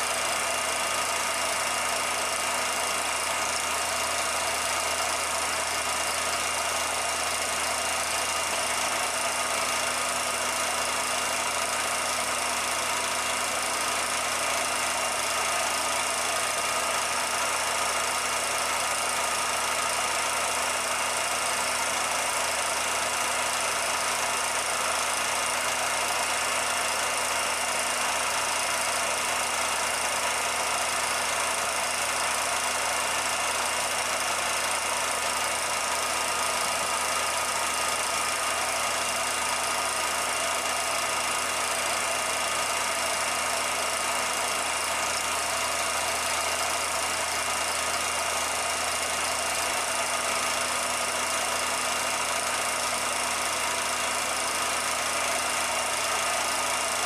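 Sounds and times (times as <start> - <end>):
film projector running: 0.0 - 57.0.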